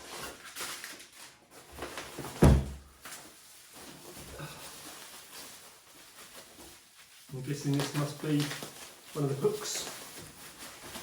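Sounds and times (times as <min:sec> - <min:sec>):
packaging rustling: 0:00.0 - 0:11.0.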